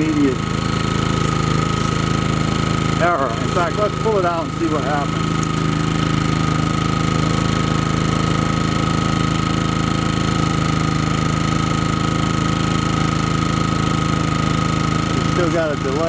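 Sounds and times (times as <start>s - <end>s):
generator engine running: 0.0s - 16.0s.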